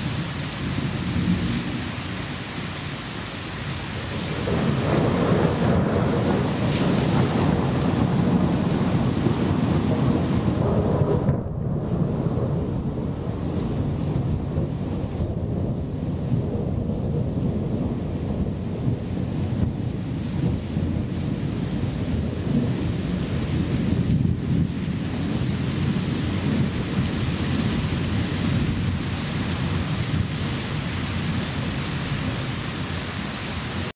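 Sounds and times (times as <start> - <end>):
heavy rain: 0.0 - 33.9
thunder rumbling: 0.0 - 33.9.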